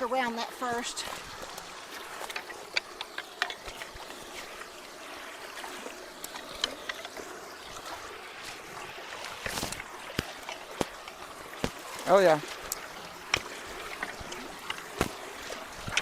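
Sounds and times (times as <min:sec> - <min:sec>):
water running through culvert: 0:00.0 - 0:16.0.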